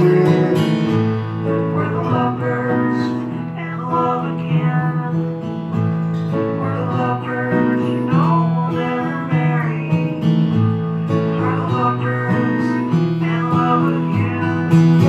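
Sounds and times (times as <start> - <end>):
live folk-country band playing: 0.0 - 15.0
strummed acoustic guitar: 0.0 - 15.0.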